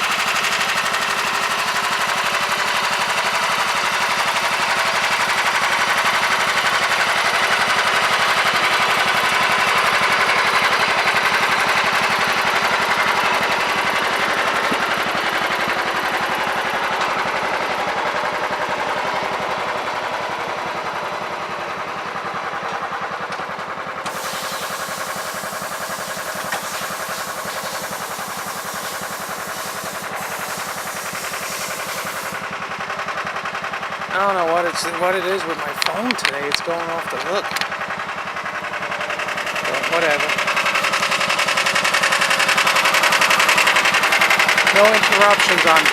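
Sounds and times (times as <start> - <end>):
lawn tractor engine running: 0.0 - 45.9.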